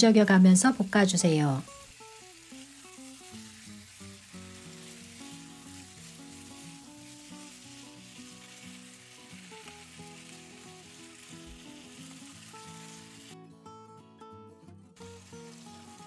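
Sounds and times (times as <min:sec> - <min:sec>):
pork sizzling in a frying pan: 0:00.0 - 0:13.9, 0:15.0 - 0:16.0.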